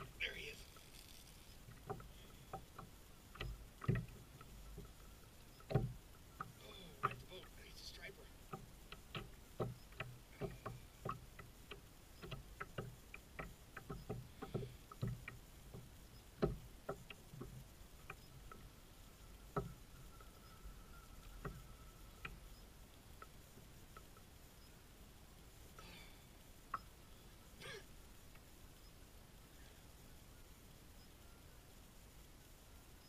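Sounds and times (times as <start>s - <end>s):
faint steady whine: 0.0s - 33.0s.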